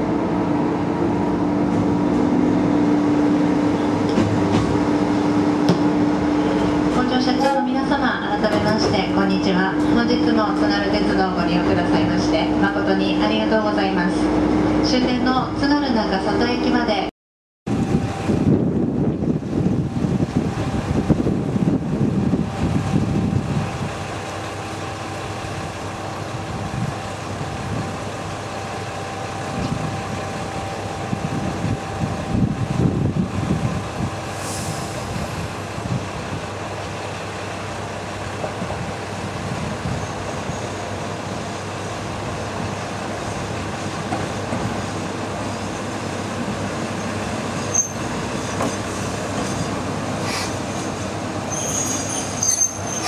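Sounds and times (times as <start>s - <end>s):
diesel railcar engine idling: 0.0s - 14.6s, 17.7s - 53.0s
railcar drawing in: 0.0s - 17.1s, 17.7s - 53.0s.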